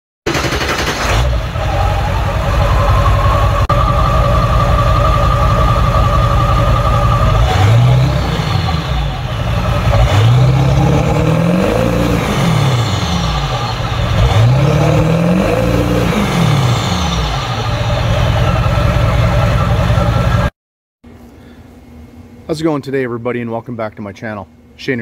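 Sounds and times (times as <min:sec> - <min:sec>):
vehicle engine revving: 0:00.4 - 0:20.5.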